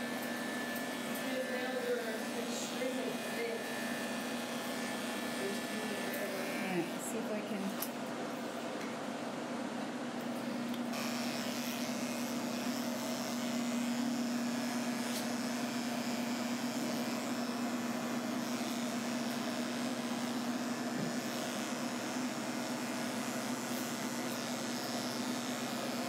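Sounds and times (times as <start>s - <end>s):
electric clippers humming: 0.0s - 8.9s, 10.2s - 26.0s.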